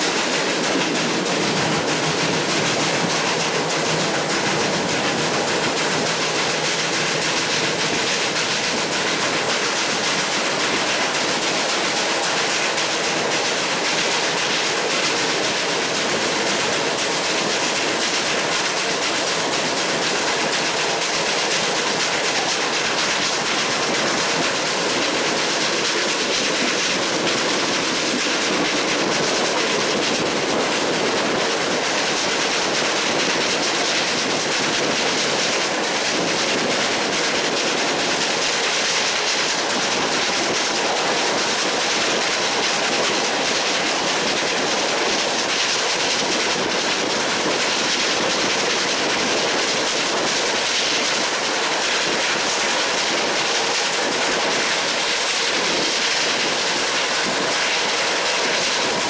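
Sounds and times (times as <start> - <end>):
train wheels rushing on rails: 0.0 - 59.0.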